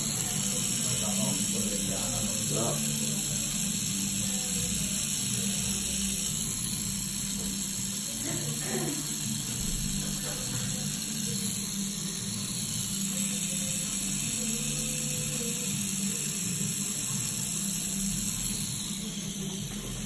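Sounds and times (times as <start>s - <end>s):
tattoo machine buzzing: 0.0s - 20.0s.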